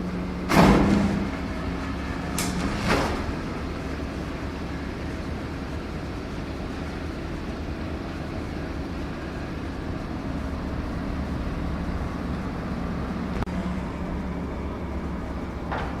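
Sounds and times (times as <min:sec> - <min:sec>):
heavy machinery engine rumble: 0:00.0 - 0:16.0.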